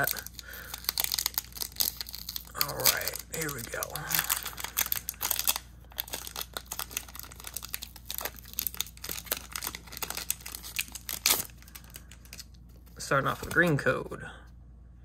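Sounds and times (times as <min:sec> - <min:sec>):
foil ripping: 0:00.0 - 0:12.4
foil wrapper crinkling: 0:00.0 - 0:13.7.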